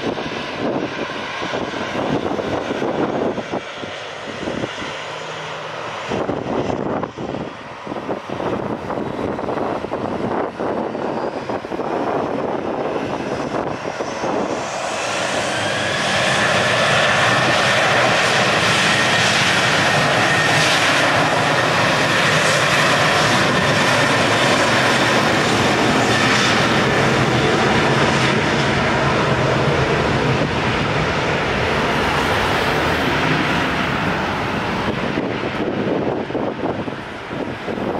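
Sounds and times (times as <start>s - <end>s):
jet engines roaring with whine: 0.0s - 37.9s.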